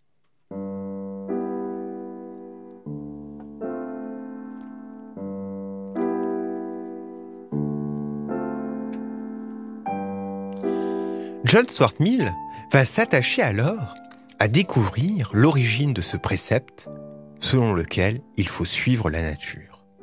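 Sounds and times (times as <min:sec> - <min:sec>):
slow piano chords: 0:00.4 - 0:20.0.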